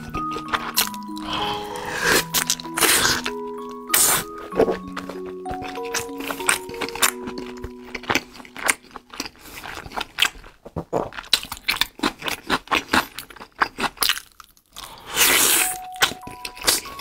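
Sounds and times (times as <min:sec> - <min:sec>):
biting and chewing mouth sounds: 0:00.0 - 0:17.0.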